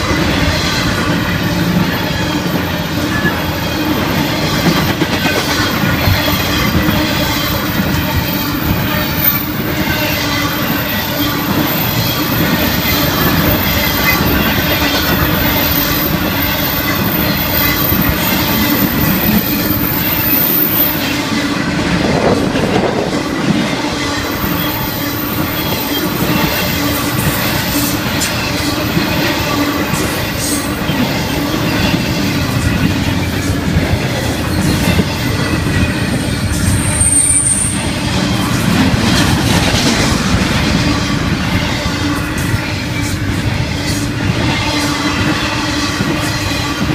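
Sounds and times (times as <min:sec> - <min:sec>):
train wheels clacking on rails: 0:00.0 - 0:46.9
wheel squeal against rail: 0:00.4 - 0:46.9.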